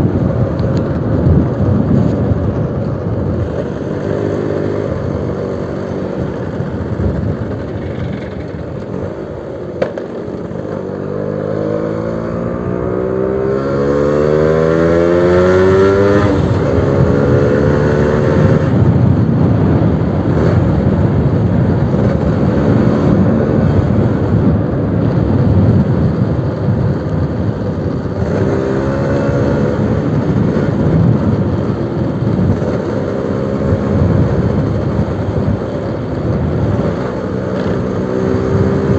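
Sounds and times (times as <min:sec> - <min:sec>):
two-stroke motorcycle engine revving: 0:03.3 - 0:38.9.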